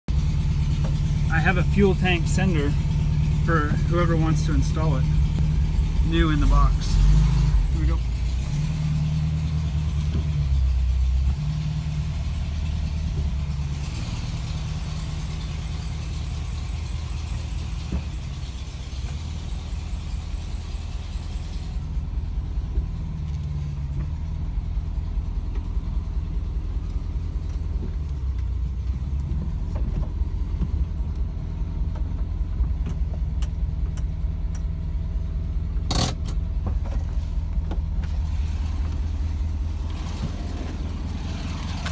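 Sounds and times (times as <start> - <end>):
van engine droning: 0.0 - 41.9.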